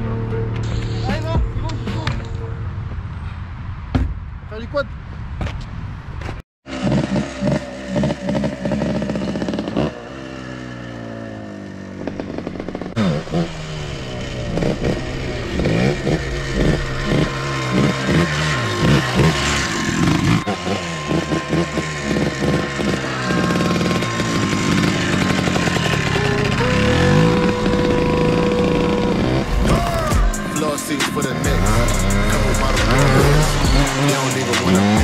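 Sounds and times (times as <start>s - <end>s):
two-stroke engine revving: 6.7s - 35.0s.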